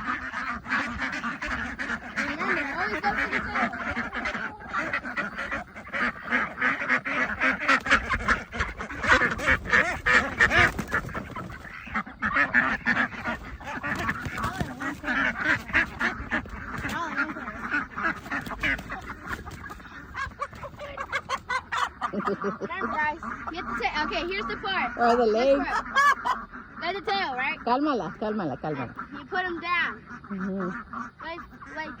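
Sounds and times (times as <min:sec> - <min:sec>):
poultry calling: 0:00.0 - 0:32.0.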